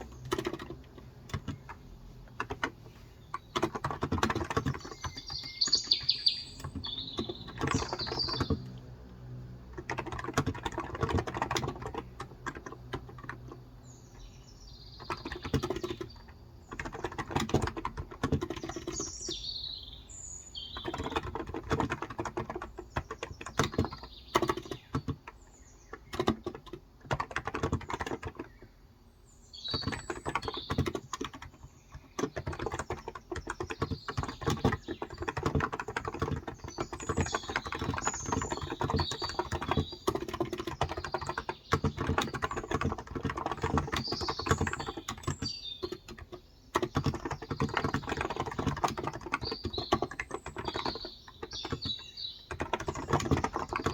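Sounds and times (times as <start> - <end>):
birds chirping: 0.0 - 8.9, 9.7 - 53.9
keyboard typing: 0.0 - 13.8, 14.9 - 19.4, 20.6 - 28.7, 29.6 - 53.9.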